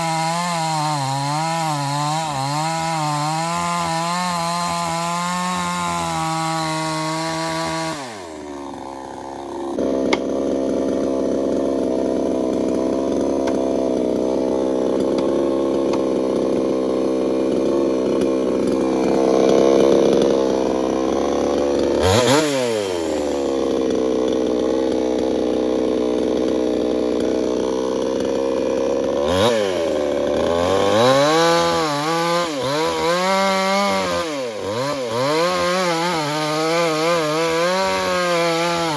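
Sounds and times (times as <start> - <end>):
chainsaw cutting into tree: 0.0 - 38.9.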